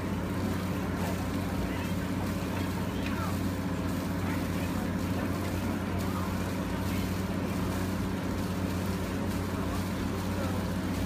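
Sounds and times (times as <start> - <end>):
boat engine running: 0.0 - 11.0
water and wind hiss: 0.0 - 11.0.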